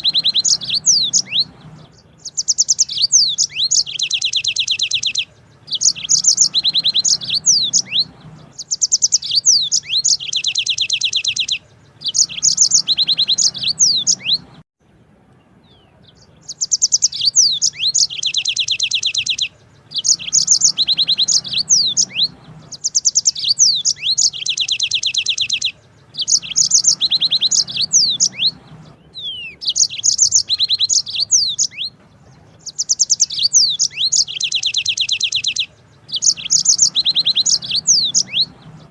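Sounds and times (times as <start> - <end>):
canary singing: 0.0 - 14.6, 15.3 - 38.9.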